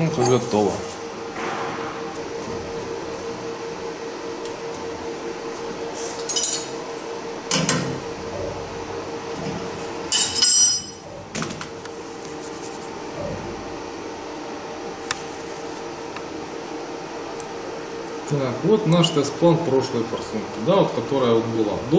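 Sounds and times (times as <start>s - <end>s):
steady machine hum: 0.0s - 21.9s.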